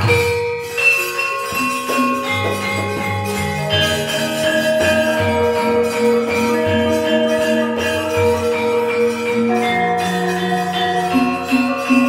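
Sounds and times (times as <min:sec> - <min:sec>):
gamelan ensemble playing: 0:00.0 - 0:12.0
hand drum: 0:00.0 - 0:12.0.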